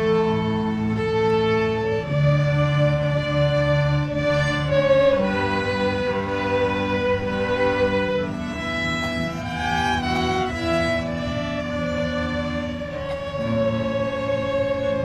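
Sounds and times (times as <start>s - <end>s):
lower string parts: 0.0s - 15.0s
violin holding long notes: 0.0s - 15.0s.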